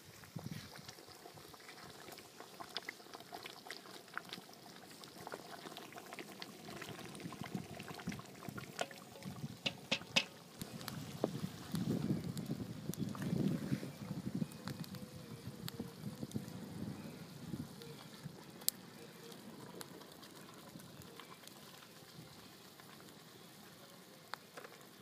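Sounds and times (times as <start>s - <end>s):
thick stew bubbling: 0.0s - 25.0s.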